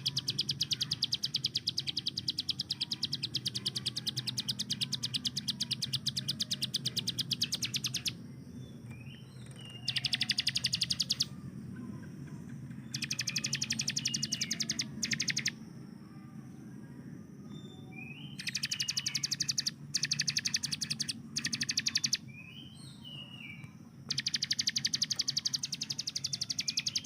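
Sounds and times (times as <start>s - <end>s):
bird rising chirps: 0.0s - 11.5s, 12.8s - 15.7s, 17.4s - 27.0s.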